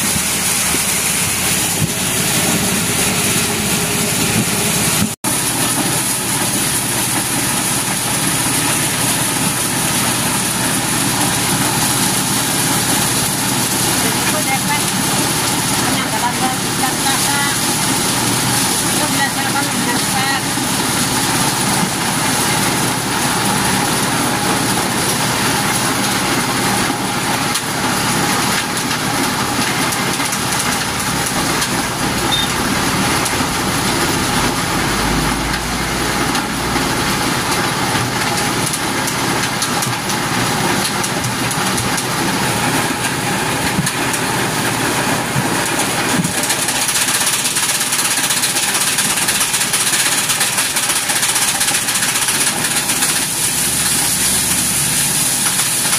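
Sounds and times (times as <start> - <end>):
corn sheller machine running: 0.0 - 55.9.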